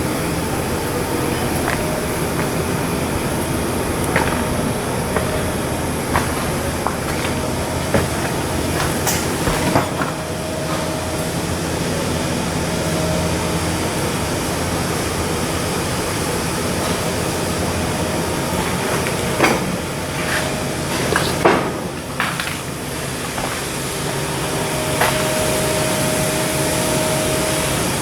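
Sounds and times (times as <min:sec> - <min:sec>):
loud machinery noise: 0:00.0 - 0:28.0.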